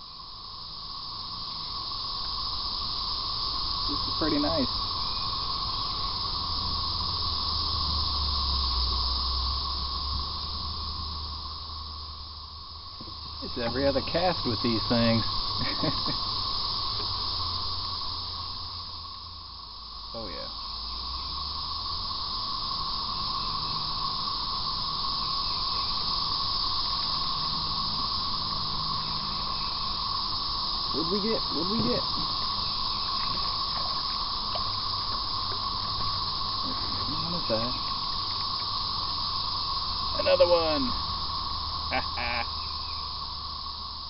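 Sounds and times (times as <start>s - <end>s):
high-pitched insect chorus: 0.0s - 44.0s
steady background hiss: 0.0s - 44.0s.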